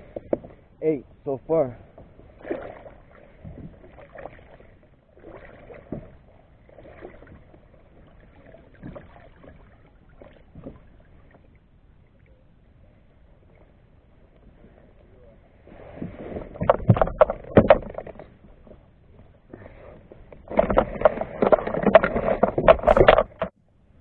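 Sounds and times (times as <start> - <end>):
water splashes: 0.0 - 12.4, 13.3 - 23.6.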